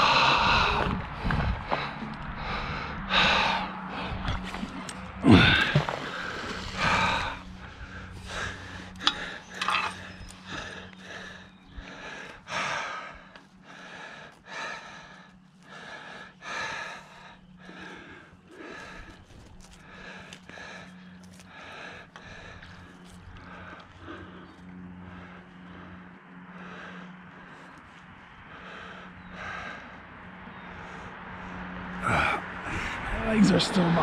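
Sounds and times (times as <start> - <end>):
man breathing heavily: 0.0 - 33.3.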